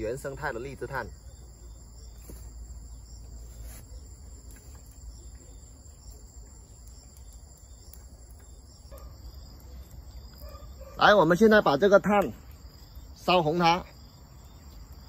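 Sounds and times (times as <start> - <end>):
insect chorus chirring: 0.0 - 15.0.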